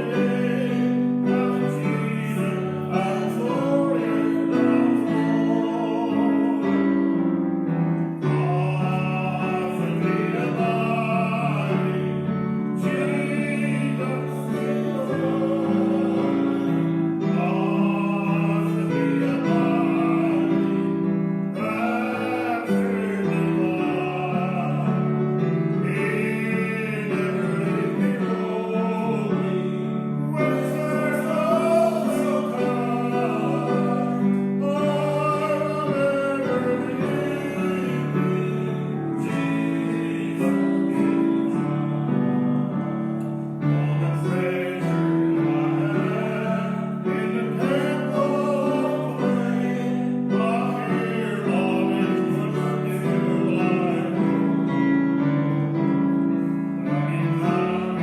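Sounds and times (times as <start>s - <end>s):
instrumental accompaniment: 0.0s - 58.0s
voices singing a hymn: 0.0s - 58.0s.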